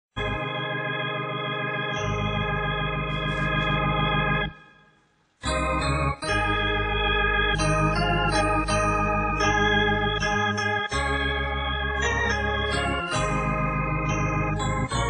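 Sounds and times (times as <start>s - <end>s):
electronic organ chords: 0.2s - 15.0s.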